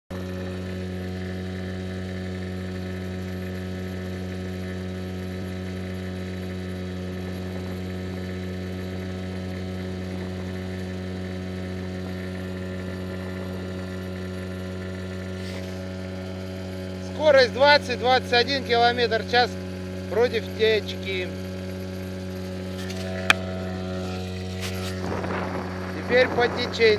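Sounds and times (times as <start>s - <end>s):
outboard motor running: 0.1s - 26.9s.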